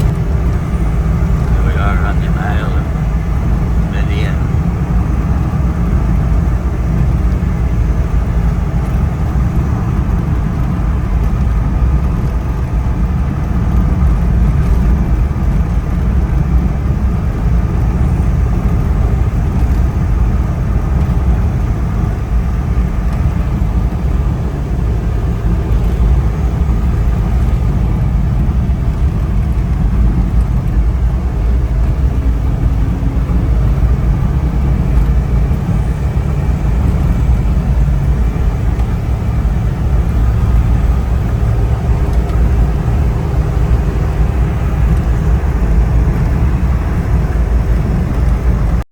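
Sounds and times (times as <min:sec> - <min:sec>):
moving vehicle rumble: 0:00.0 - 0:48.9.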